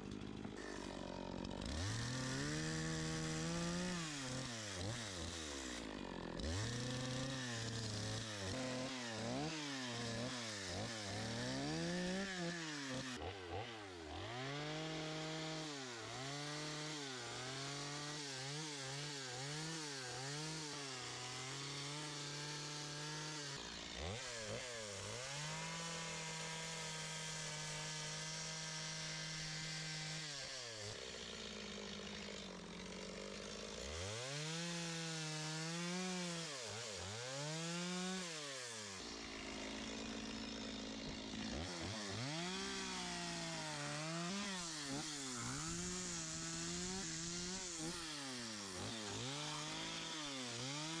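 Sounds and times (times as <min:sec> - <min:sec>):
chainsaw cutting wood: 0:00.0 - 0:51.0.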